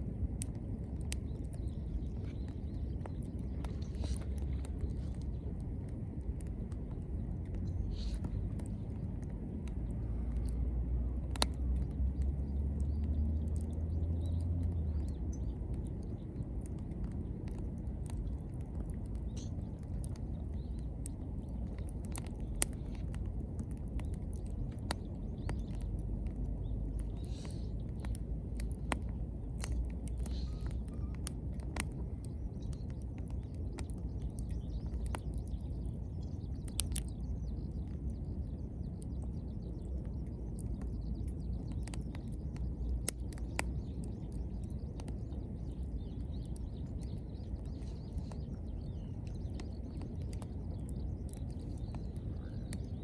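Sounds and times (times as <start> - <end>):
crackles and pops of burning wood: 0.0 - 53.0
wood fire burning: 0.0 - 53.0.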